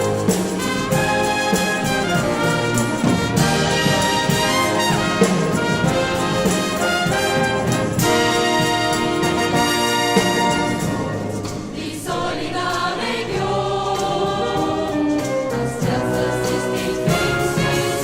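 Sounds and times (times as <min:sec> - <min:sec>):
orchestral music led by brass: 0:00.0 - 0:18.0.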